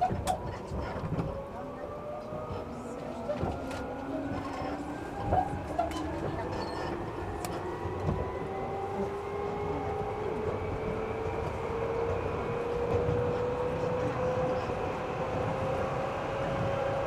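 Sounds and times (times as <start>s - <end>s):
wheel and track rumble: 0.0s - 17.0s.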